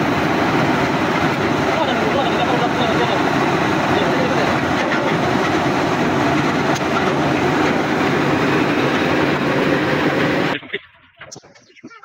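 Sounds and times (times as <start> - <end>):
drilling rig running: 0.0 - 11.4.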